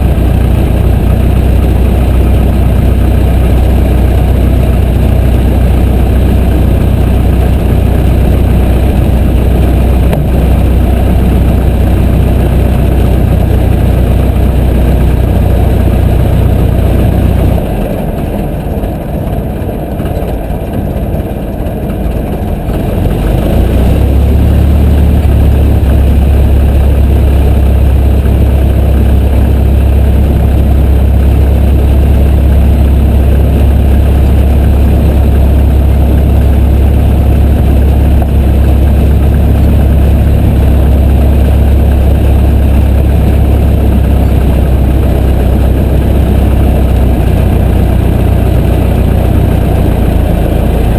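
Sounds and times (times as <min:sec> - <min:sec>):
light aircraft engine and propeller: 0:00.0 - 0:50.9.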